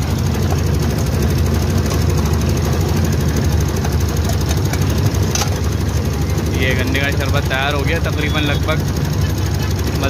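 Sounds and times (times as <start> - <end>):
sugarcane crusher rattling chug: 0.0 - 10.0.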